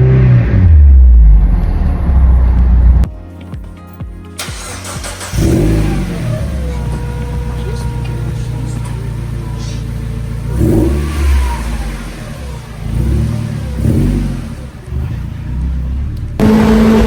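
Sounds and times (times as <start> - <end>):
car engine idling and revving: 0.0 - 3.1, 4.4 - 17.0.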